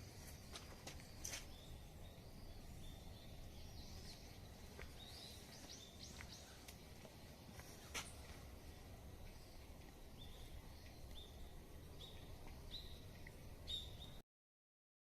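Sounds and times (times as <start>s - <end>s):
low steady rumble: 0.0s - 14.2s
small birds chirping: 0.0s - 14.2s.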